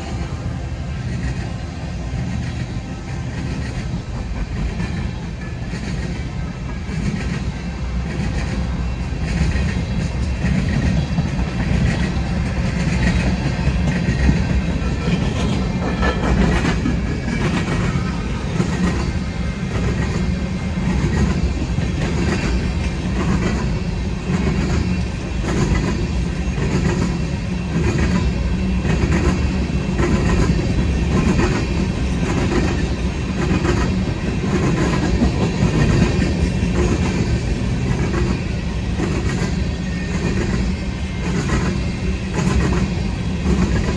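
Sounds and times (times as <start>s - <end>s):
freight train rumbling past: 0.0s - 43.9s
wheels clacking over rail joints: 2.2s - 43.9s.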